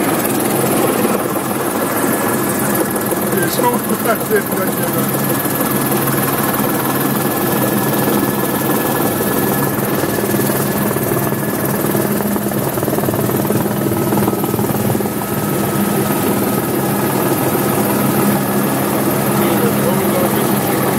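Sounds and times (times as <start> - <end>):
helicopter rotor and turbine: 0.0 - 20.9.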